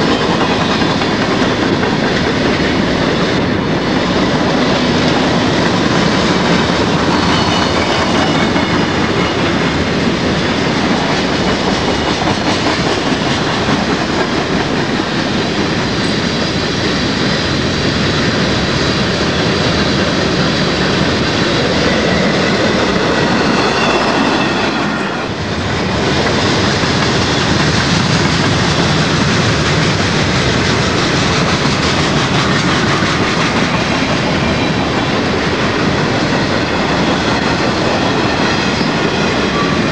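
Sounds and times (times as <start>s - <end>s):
train wheels running on rails: 0.0s - 39.9s.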